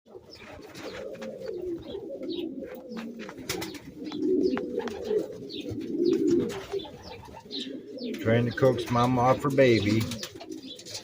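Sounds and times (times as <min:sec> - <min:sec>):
bird cooing: 0:00.1 - 0:11.0.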